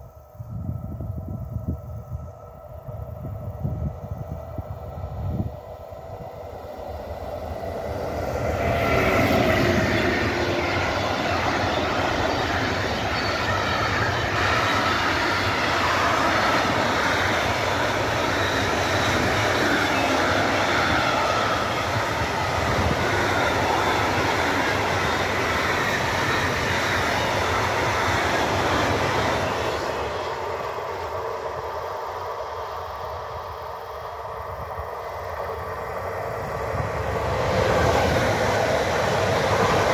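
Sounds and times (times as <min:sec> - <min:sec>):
freight train wheels rolling: 0:04.1 - 0:39.9.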